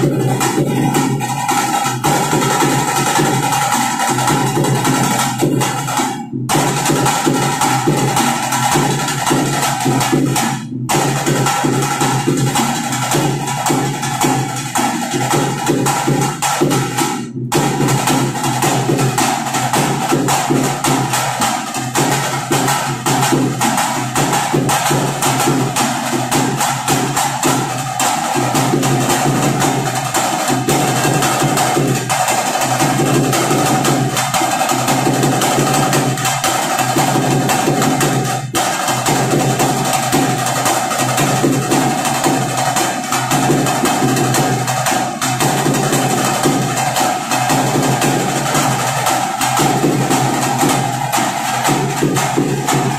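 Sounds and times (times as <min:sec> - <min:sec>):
fast live drumming: 0:00.0 - 0:52.9.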